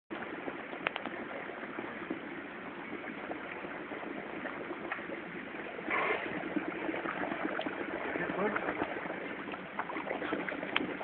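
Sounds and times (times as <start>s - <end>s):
water swirling in a tank: 0.1s - 11.0s.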